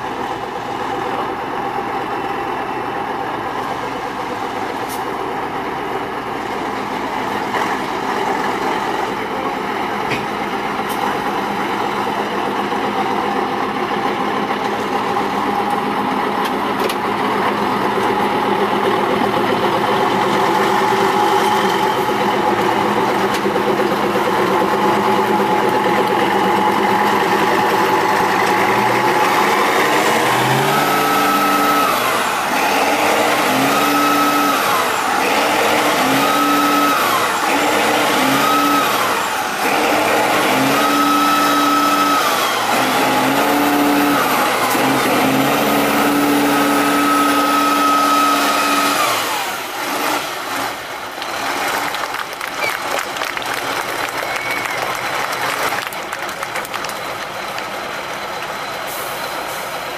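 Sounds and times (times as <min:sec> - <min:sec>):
truck diesel engine revving: 0:00.0 - 0:59.9.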